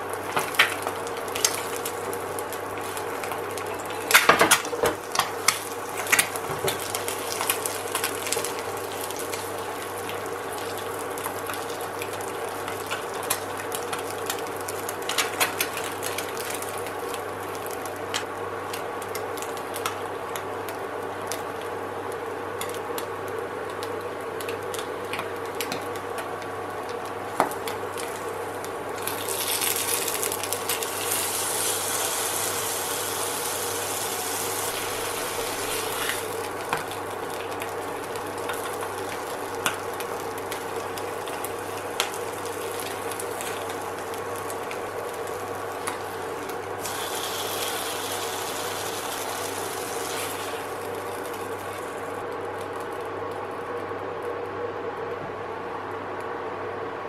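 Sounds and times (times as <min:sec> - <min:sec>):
egg sizzling in a pan: 0:00.0 - 0:21.4, 0:27.3 - 0:52.2
cooker humming: 0:00.0 - 0:57.0.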